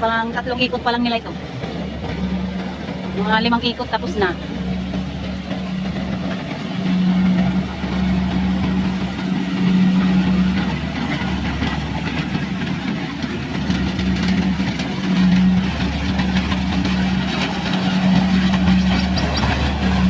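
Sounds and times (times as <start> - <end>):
combine harvester engine humming: 0.0 - 20.0
light mechanical clatter: 0.1 - 20.0.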